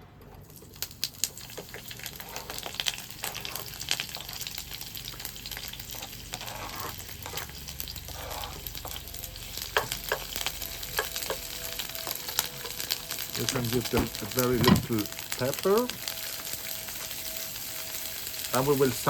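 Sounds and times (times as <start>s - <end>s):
vegetables sizzling in frying pan: 0.6s - 19.0s.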